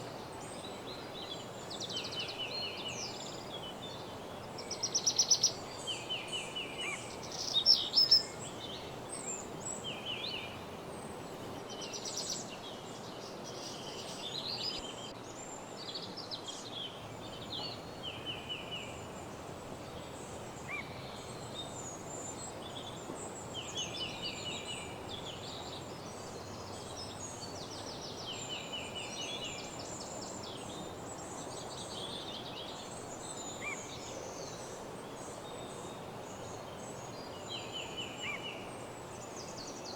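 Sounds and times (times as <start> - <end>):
low rushing background noise: 0.0 - 39.9
songbirds chirping and trilling: 0.0 - 39.9.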